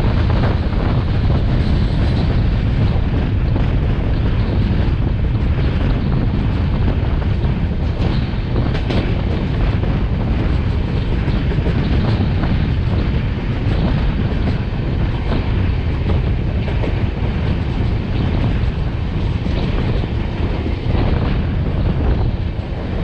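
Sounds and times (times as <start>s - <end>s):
train rushing along track: 0.0s - 23.0s
wind buffeting microphone: 0.0s - 23.0s.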